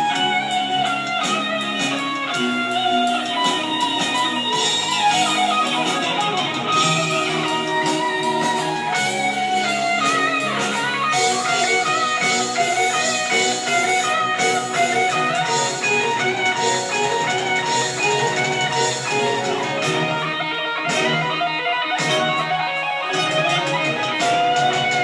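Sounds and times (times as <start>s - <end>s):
electric guitar melody: 0.0s - 25.0s
orchestra playing: 0.0s - 25.0s.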